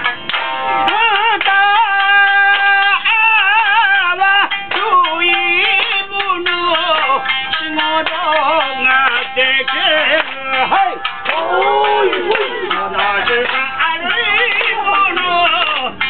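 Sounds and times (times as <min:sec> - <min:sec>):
plucked shamisen notes: 0:00.0 - 0:16.0
person singing long wavering notes: 0:00.8 - 0:16.0.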